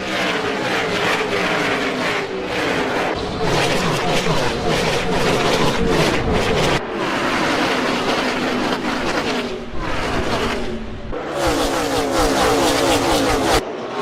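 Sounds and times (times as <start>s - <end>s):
race cars running at speed: 0.0s - 14.0s.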